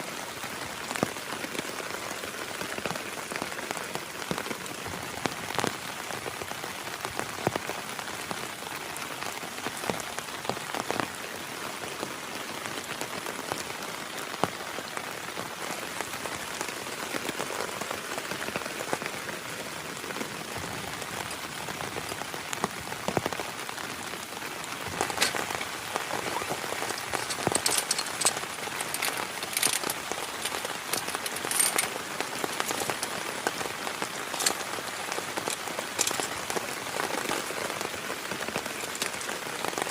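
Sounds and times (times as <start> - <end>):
heavy rain: 0.0 - 39.9
raindrops ticking on surface: 0.0 - 39.9.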